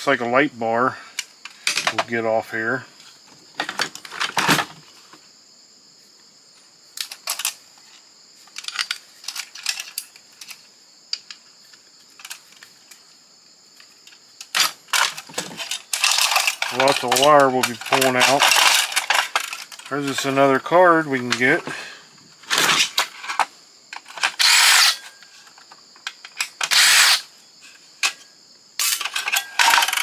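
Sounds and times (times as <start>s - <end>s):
hand tools and parts clinking: 1.2s - 2.3s, 3.0s - 4.8s, 7.0s - 7.6s, 8.4s - 13.0s, 13.8s - 30.0s.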